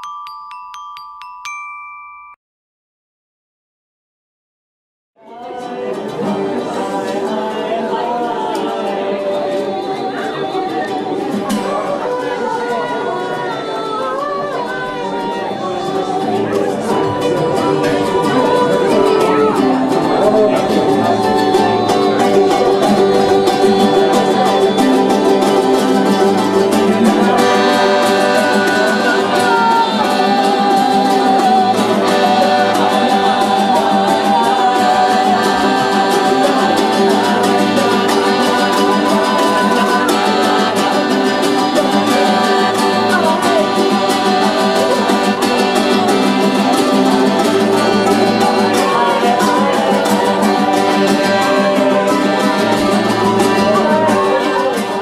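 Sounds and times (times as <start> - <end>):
person singing: 5.2 - 55.0
plucked guitar: 5.2 - 55.0.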